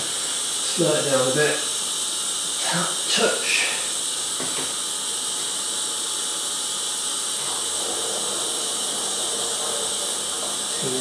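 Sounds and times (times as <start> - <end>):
water hissing through hoses: 0.0 - 11.0.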